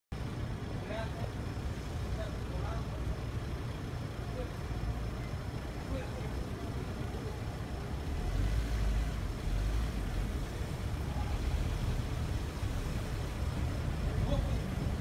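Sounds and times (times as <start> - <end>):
car engine running at low speed: 0.1 - 15.0.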